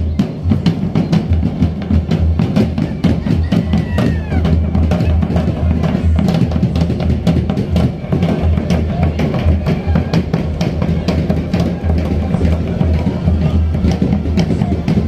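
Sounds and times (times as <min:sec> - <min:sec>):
drum-led music: 0:00.0 - 0:15.0.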